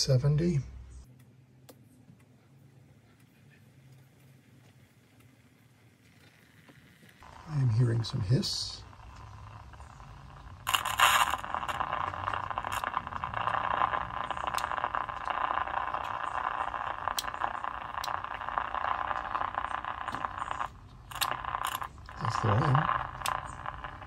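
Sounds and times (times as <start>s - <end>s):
radio static hiss with crackles: 3.2s - 24.0s.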